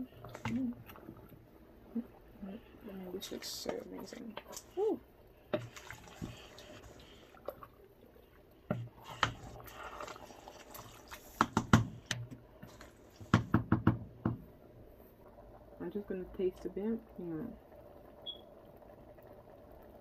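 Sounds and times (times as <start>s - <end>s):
soup bubbling in a pot: 0.0s - 20.0s.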